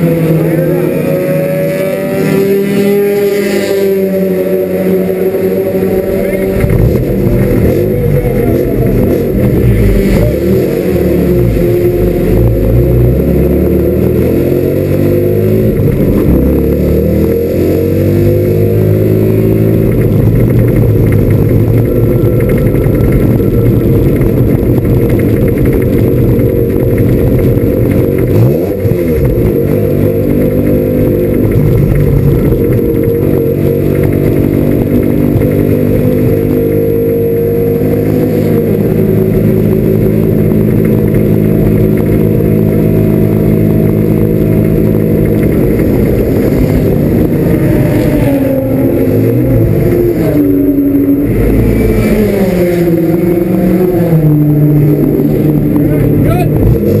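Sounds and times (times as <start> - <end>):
rotary engine revving: 0.0 - 57.0.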